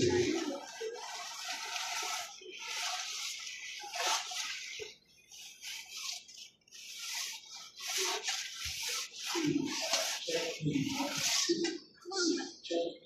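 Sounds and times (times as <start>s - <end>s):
irregular rubbing or scraping: 0.0s - 11.9s.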